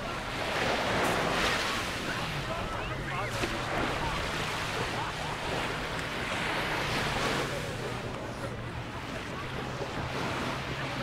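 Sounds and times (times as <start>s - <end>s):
waves washing on beach: 0.0s - 11.0s.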